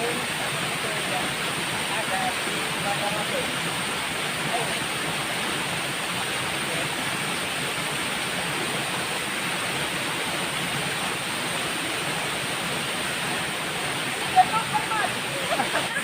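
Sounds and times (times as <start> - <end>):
waterfall pouring into pool: 0.0 - 16.0.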